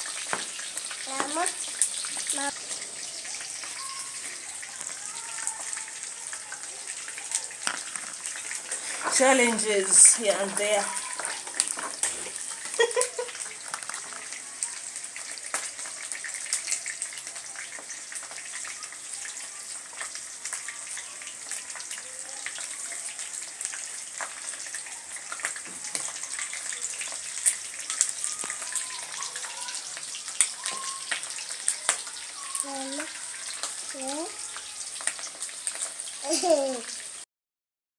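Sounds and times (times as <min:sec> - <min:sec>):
chicken deep-frying in oil: 0:00.0 - 0:37.3.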